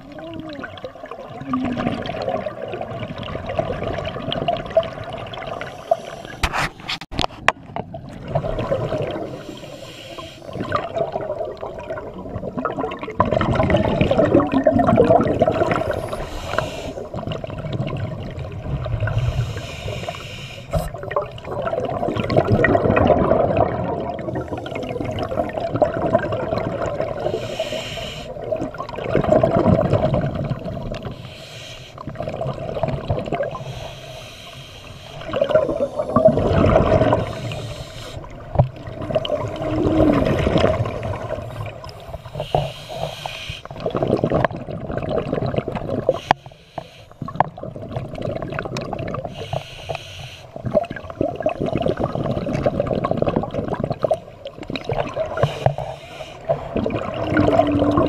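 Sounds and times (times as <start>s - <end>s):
regulator bubbles gurgling: 0.0s - 58.0s.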